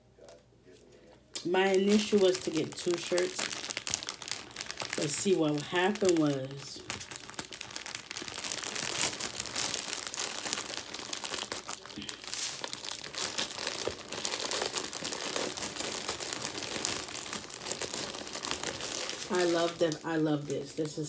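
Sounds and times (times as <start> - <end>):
plastic mailer bag crinkling: 1.4 - 21.0.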